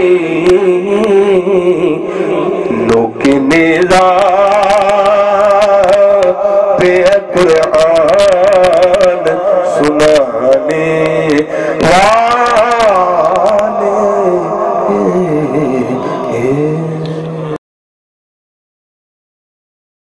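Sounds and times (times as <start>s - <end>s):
man singing into microphone: 0.0s - 17.6s.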